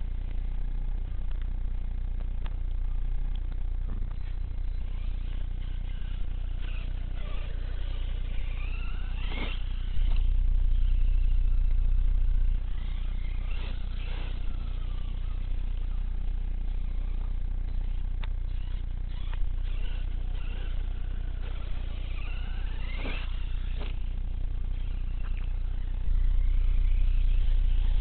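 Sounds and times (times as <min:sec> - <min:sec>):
electric motor whining: 0:00.0 - 0:28.0
low rumble: 0:00.0 - 0:28.0.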